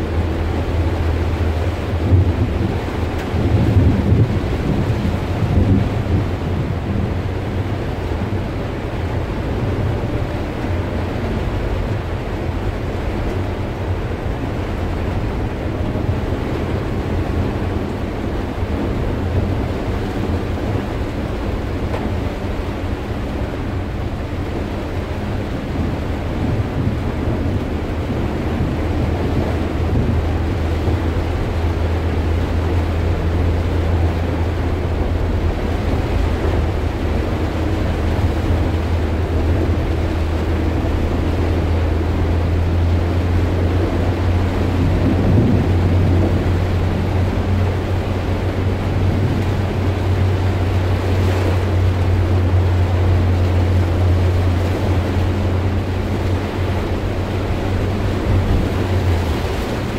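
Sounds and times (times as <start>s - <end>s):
engine drone: 0.0s - 59.9s
heavy rain on vehicle roof: 0.0s - 59.9s
tyres on wet road: 0.0s - 59.9s.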